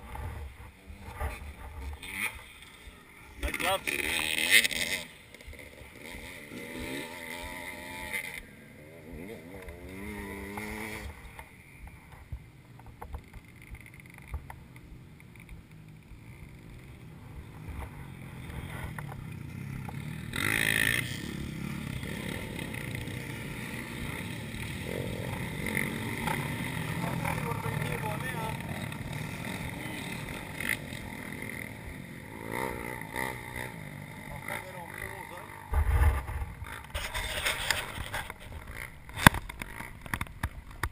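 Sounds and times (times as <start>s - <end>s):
motorcycle engines idling and revving: 0.0s - 40.9s.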